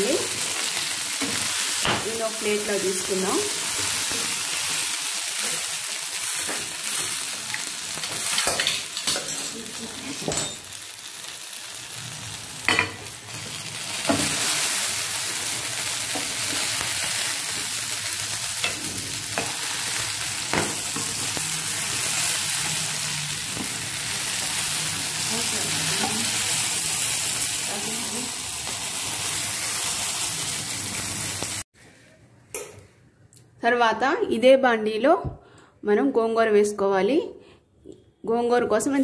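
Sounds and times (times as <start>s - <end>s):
chillies sizzling in oil: 0.0s - 31.7s.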